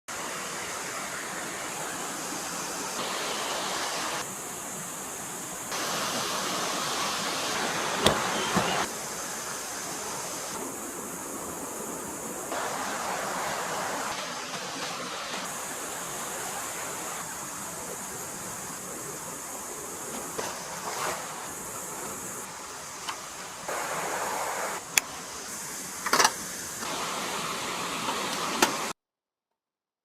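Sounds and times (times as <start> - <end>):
stream water rushing over rocks: 0.1 - 29.0.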